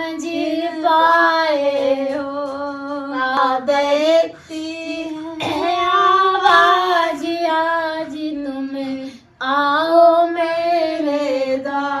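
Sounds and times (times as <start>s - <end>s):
person singing devotional song: 0.0s - 12.0s.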